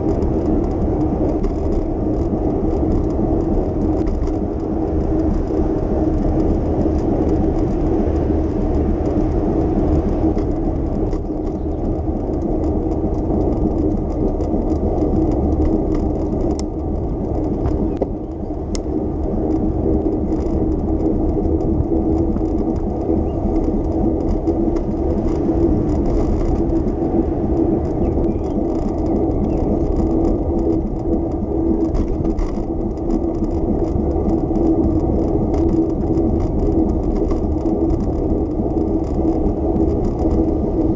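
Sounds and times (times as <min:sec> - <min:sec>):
bicycle rolling whir: 0:00.0 - 0:40.9
sharp ticks: 0:00.0 - 0:40.9.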